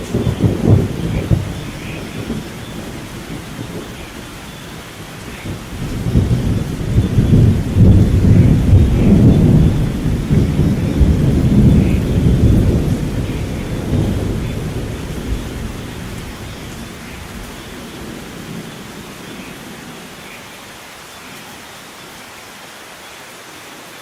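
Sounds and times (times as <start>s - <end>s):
thunder rumbling: 0.0s - 20.3s
steady rain: 0.0s - 24.0s.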